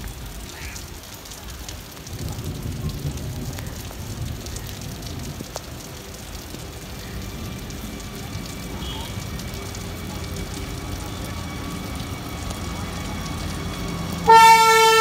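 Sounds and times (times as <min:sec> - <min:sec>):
rain pattering on platform: 0:00.0 - 0:15.0.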